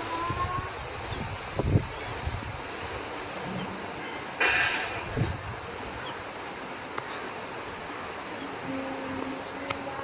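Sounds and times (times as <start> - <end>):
wind through tree leaves: 0.0 - 10.0.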